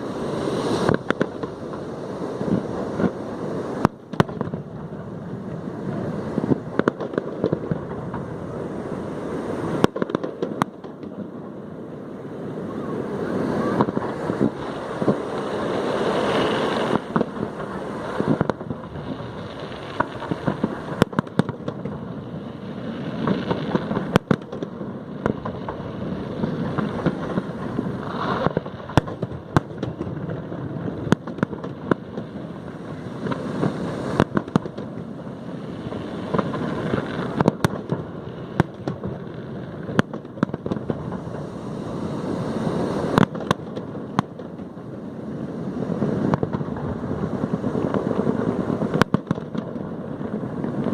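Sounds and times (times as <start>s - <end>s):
firework bangs: 0.0s - 50.9s
rumble of firework bursts: 0.0s - 50.9s.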